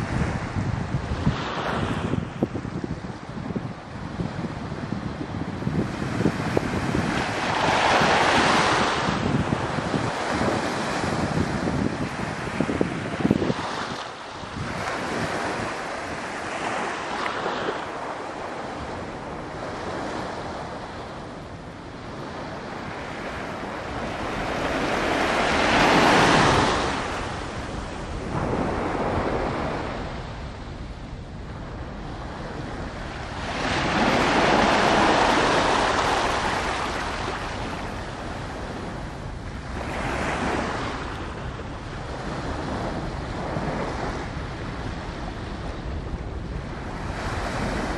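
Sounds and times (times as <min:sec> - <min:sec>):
small waves washing on shore: 0:00.0 - 0:47.9
wind on microphone: 0:00.0 - 0:47.9.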